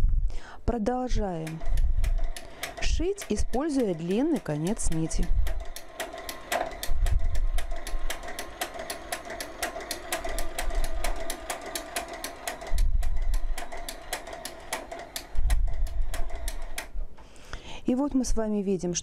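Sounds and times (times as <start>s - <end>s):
steady machine hum: 0.4s - 17.4s
rapid machine clicks: 1.0s - 17.0s.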